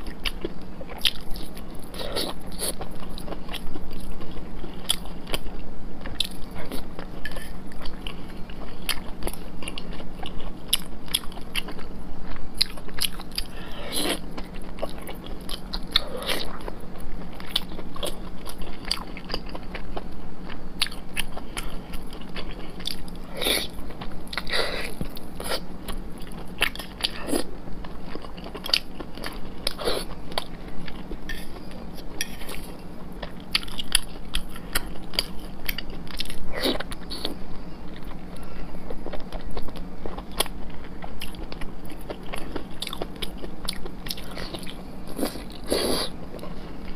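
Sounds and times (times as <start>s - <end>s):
person chewing with wet smacks: 0.0s - 46.9s.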